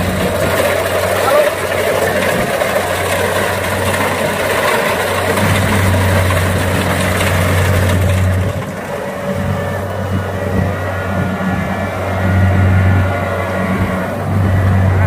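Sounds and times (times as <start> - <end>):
combine harvester diesel engine: 0.0 - 15.0
rattly mechanical wash: 0.0 - 15.0.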